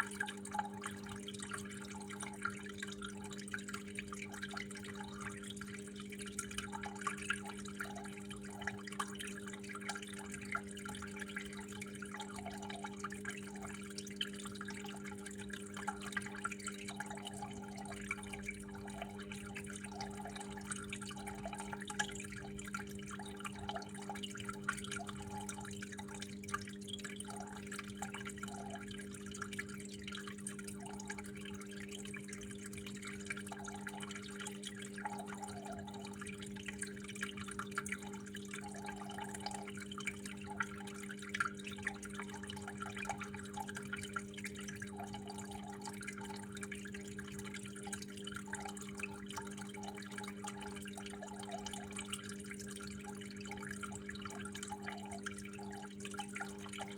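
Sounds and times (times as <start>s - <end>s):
water trickling and dripping: 0.0s - 56.9s.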